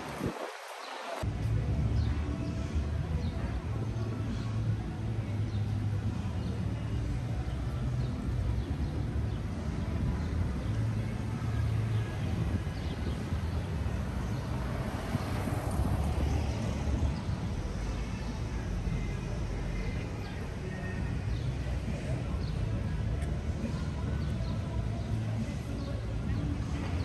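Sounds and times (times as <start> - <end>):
background street noise: 0.0 - 27.0
low street rumble: 0.0 - 27.0.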